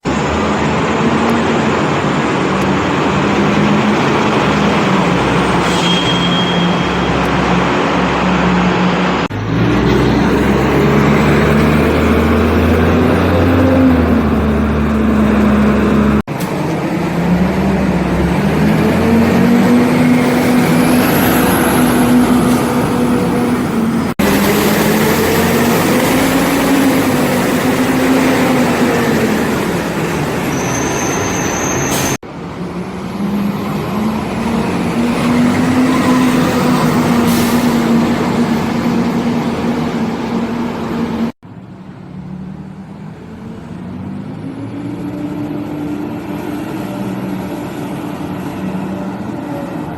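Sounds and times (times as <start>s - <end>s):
bus cooling fans droning: 0.0s - 5.7s, 6.9s - 30.5s, 32.2s - 49.9s
diesel engines running: 0.0s - 49.9s.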